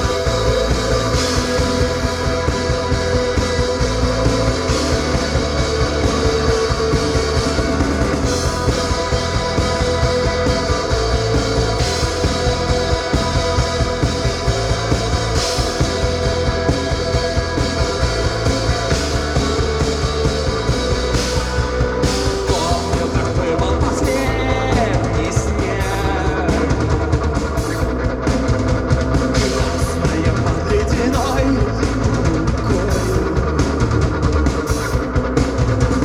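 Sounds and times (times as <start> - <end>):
rock band playing live: 0.0 - 36.0.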